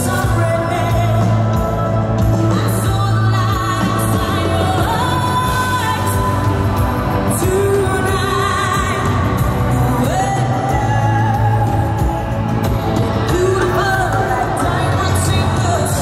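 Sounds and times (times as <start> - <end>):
woman singing: 0.0 - 12.3, 13.2 - 16.0
band playing: 0.0 - 16.0.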